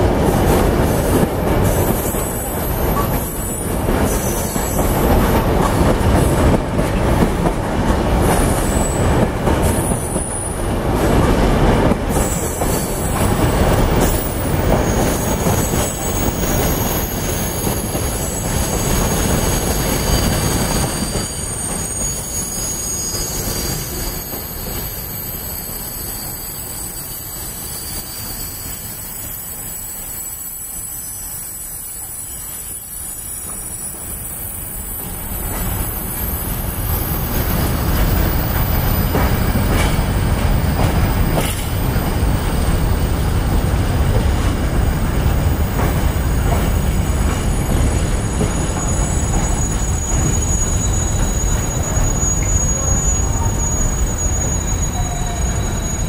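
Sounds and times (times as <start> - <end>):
freight train rumbling past: 0.0 - 56.0
train wheels squealing: 0.3 - 6.5, 8.2 - 10.7, 12.1 - 56.0.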